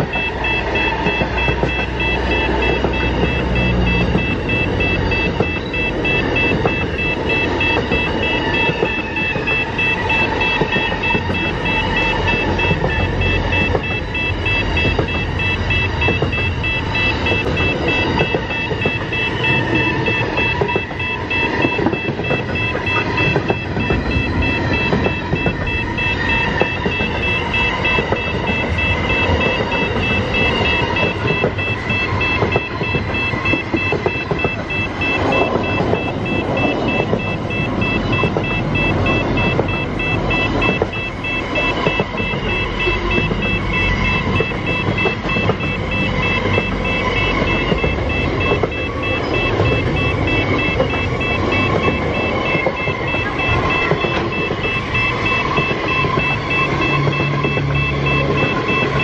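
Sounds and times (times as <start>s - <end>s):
high pulsing beeping tone: 0.0s - 59.0s
train wheels rumbling on rails: 0.0s - 59.0s.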